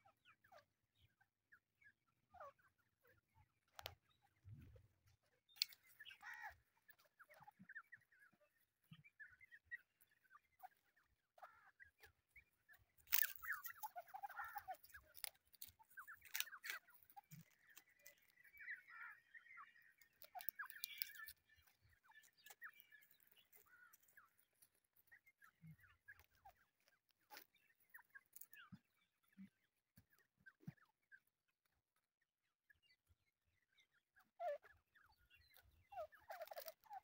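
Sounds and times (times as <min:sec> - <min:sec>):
chicks chirping softly: 0:00.0 - 0:37.0.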